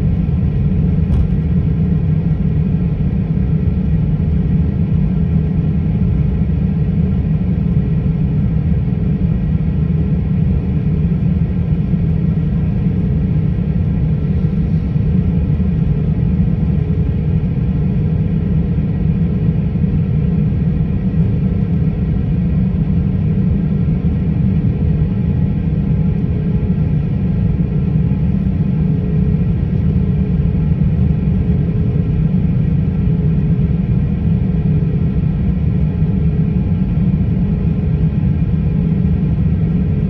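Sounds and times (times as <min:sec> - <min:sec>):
faint hum: 0:00.0 - 0:40.0
jet engine cabin rumble: 0:00.0 - 0:40.0.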